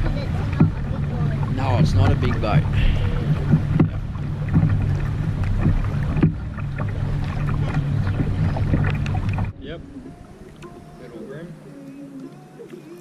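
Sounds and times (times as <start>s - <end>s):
outboard motor running: 0.0s - 13.0s
water noise: 0.0s - 13.0s
wind: 0.0s - 13.0s.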